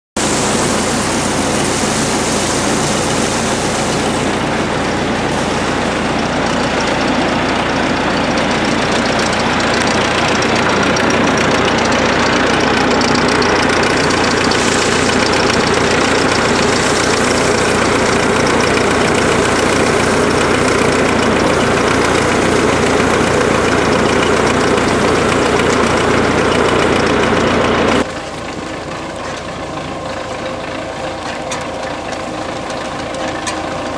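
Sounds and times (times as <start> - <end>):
tractor engine idling: 0.2 - 33.9.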